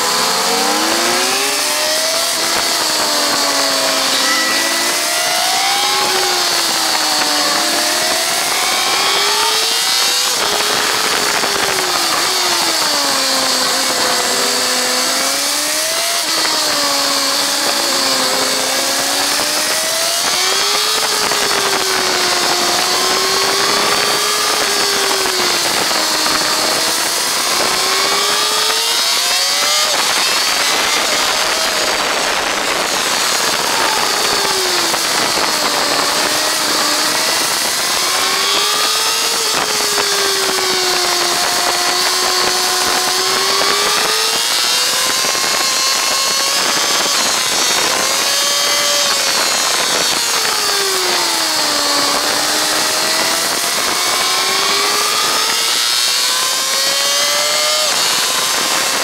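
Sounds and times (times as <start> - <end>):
motorcycle engine at speed: 0.0 - 59.0
wind rush on microphone: 0.0 - 59.0.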